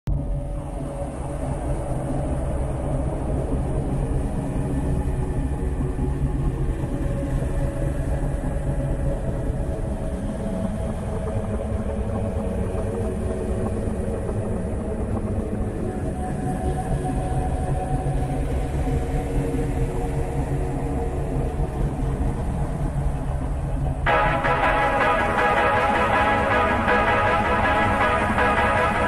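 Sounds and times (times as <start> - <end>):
low rumble with faint hum: 0.1 - 29.0.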